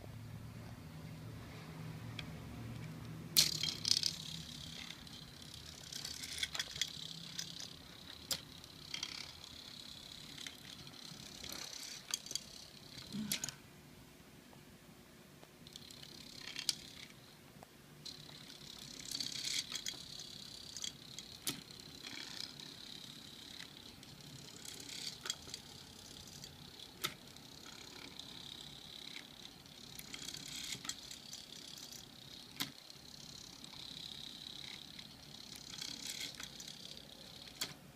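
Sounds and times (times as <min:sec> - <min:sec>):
small motors whining: 0:02.7 - 0:13.6, 0:18.1 - 0:37.8
robot legs clicking: 0:02.8 - 0:13.6, 0:18.0 - 0:37.8.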